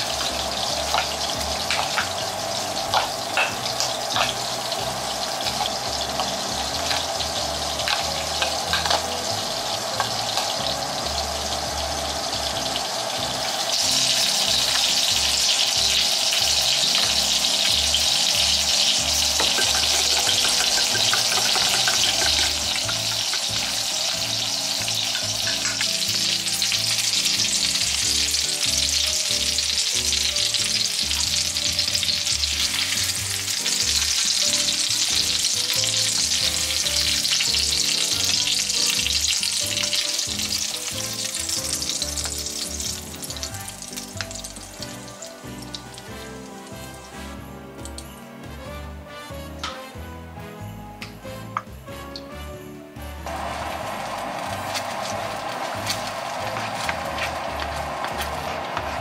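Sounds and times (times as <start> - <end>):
meat patties sizzling in pan: 0.0 - 47.4, 53.2 - 59.0.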